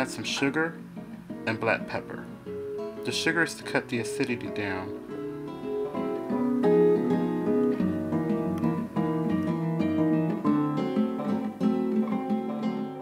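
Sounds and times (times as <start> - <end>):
acoustic guitar plucking melody: 0.0 - 13.0.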